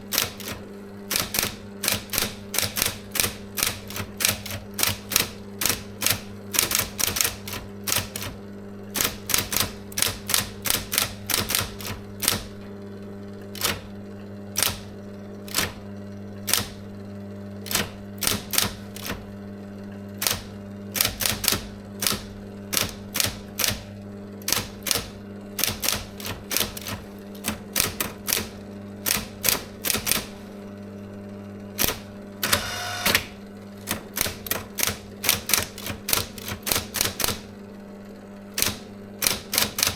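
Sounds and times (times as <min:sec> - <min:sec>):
typewriter whirring: 0:00.0 - 0:12.7, 0:13.4 - 0:16.8, 0:17.6 - 0:19.3, 0:20.1 - 0:30.5, 0:31.7 - 0:37.5, 0:38.5 - 0:39.9
typewriter motor hum: 0:00.0 - 0:37.6, 0:38.4 - 0:39.9
typewriter key strikes: 0:00.1 - 0:08.4, 0:09.0 - 0:12.5, 0:13.6 - 0:13.9, 0:14.6 - 0:14.9, 0:15.5 - 0:15.8, 0:16.4 - 0:16.8, 0:17.6 - 0:19.2, 0:20.2 - 0:30.3, 0:31.8 - 0:37.4, 0:38.6 - 0:39.9.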